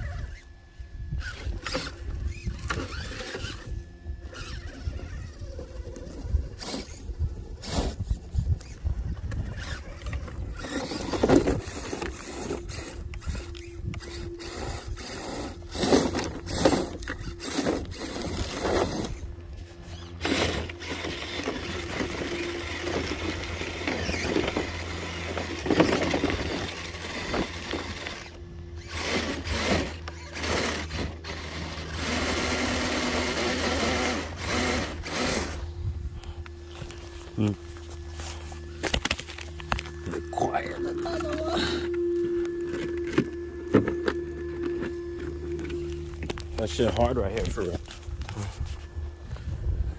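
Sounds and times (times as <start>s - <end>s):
rc car motor whining: 0.0s - 49.9s.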